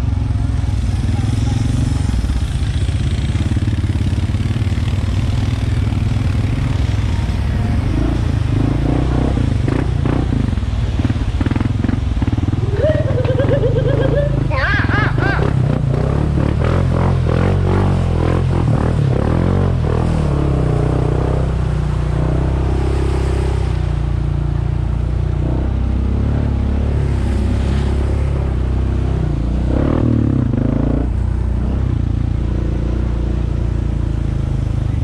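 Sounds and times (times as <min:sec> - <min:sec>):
atv engine drone: 0:00.0 - 0:35.0.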